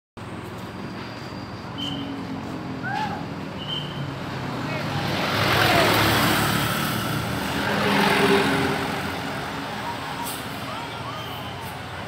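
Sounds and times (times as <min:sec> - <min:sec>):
vehicles passing close by: 0:00.2 - 0:12.0.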